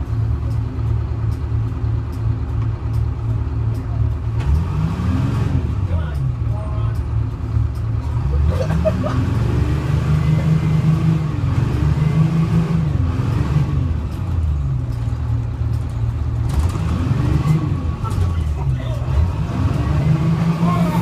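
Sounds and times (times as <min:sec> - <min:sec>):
bus diesel engine under load: 0:00.0 - 0:21.0.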